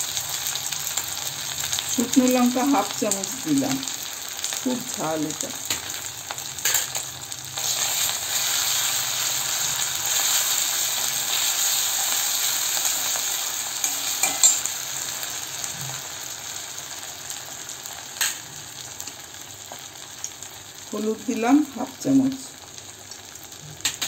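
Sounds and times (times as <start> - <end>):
paste sizzling in hot oil: 0.0 - 24.0.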